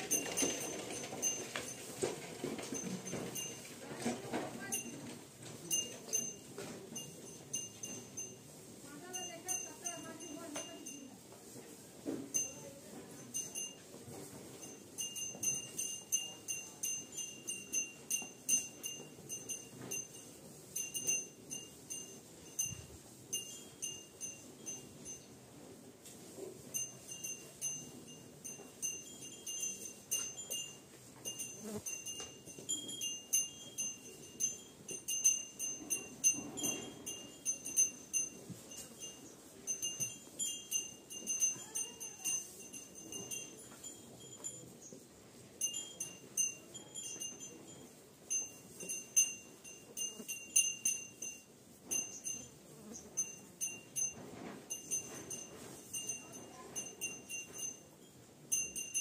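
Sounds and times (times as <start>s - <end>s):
cattle bells clinking: 0.0s - 59.0s.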